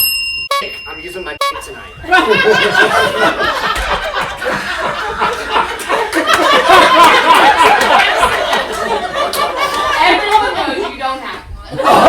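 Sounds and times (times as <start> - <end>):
audience laughing loudly: 1.9 - 12.0.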